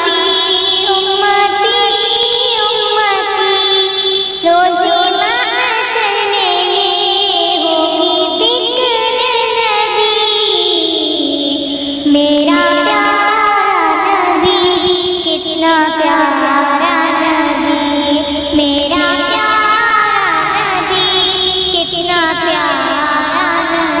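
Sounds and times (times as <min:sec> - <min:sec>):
high-pitched voice singing: 0:00.0 - 0:24.0.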